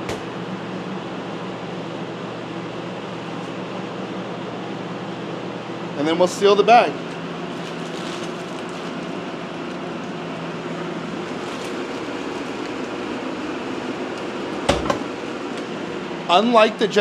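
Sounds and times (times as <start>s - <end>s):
blower air rush and motor hum: 0.0s - 17.0s.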